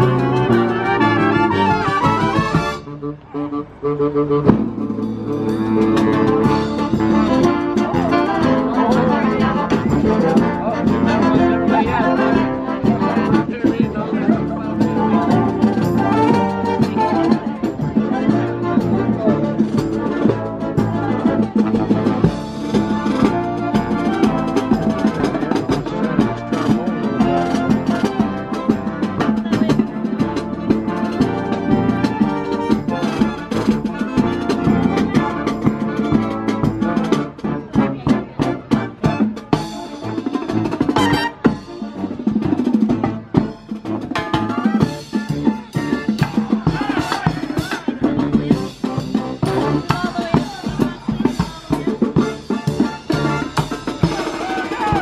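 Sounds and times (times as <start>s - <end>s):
drums: 0.0s - 55.0s
marching brass band playing: 0.0s - 55.0s.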